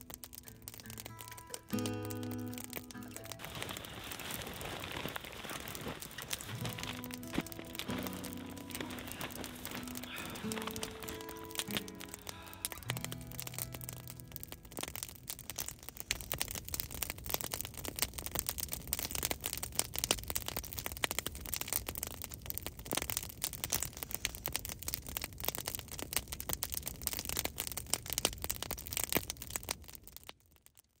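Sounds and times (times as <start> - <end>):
campfire crackling and snapping: 0.0 - 31.0.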